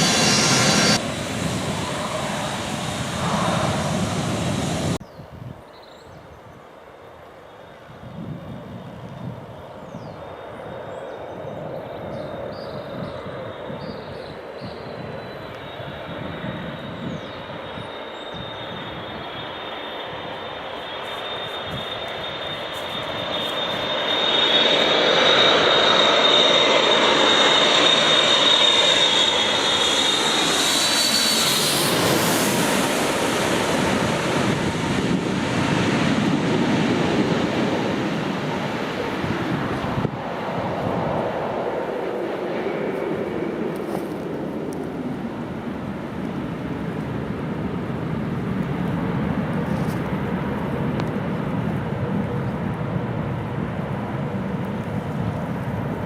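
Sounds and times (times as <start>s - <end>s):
jet airliner passing: 0.0s - 5.1s, 7.1s - 56.0s.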